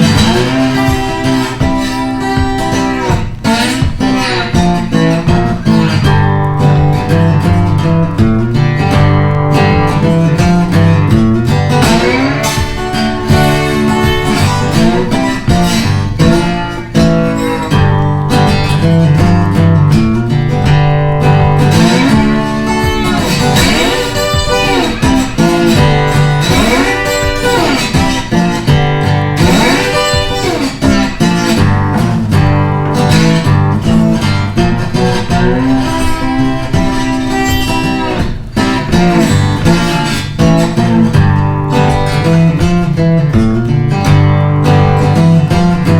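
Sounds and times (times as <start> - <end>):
guitar-led music with bass: 0.0 - 45.9.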